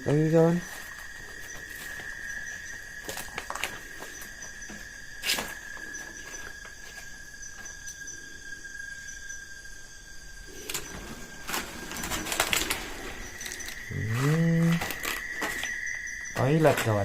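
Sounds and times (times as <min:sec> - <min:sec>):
insects trilling: 0:00.0 - 0:17.0
rapid insect chirps: 0:00.0 - 0:17.0.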